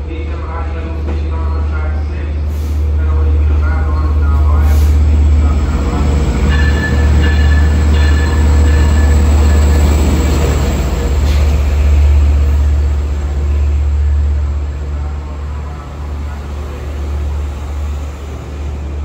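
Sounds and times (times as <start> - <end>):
diesel locomotive engine drone: 0.0 - 19.0
train coaches rolling: 0.0 - 19.0.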